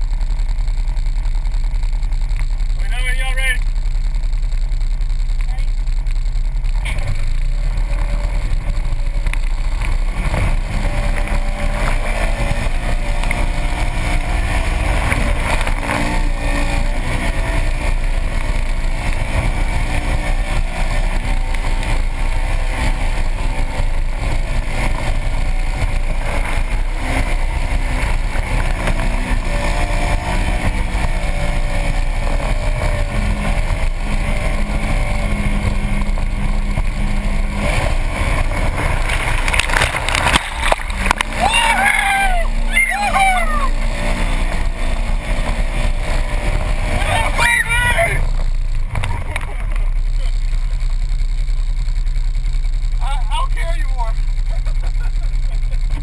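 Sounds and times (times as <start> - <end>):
vehicle engine running hard: 0.0 - 56.0.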